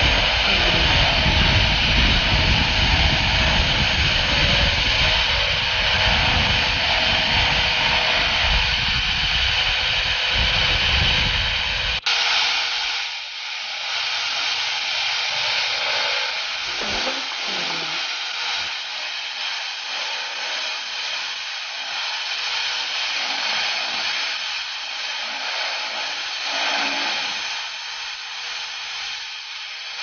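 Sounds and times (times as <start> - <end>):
milling cutter whirring into metal: 0.0 - 30.0.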